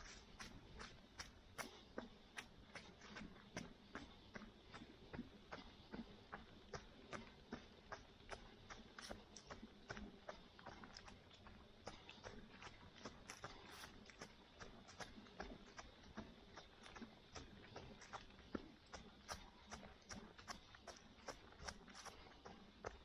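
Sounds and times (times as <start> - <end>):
runner's footsteps on pavement: 0.0 - 23.0.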